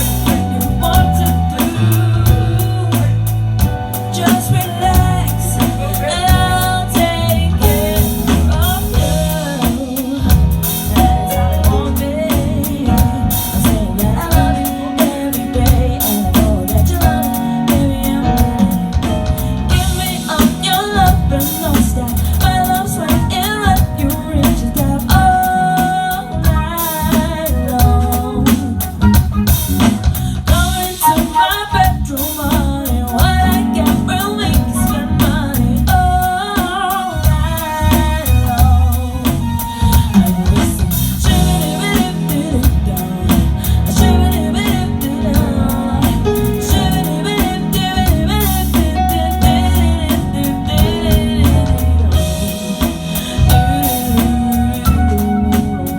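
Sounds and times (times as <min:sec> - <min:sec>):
drums: 0:00.0 - 0:55.9
heavy bass guitar: 0:00.0 - 0:55.9
person singing: 0:00.0 - 0:55.9.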